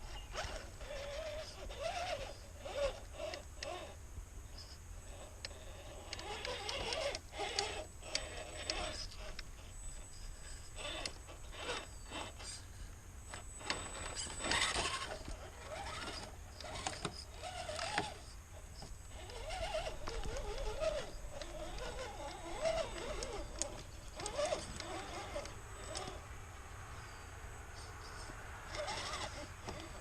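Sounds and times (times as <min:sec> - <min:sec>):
electric motor whining: 0:00.0 - 0:12.6, 0:13.3 - 0:26.3, 0:27.8 - 0:30.0
tyres crackling over rough ground: 0:00.0 - 0:26.4, 0:27.7 - 0:30.0.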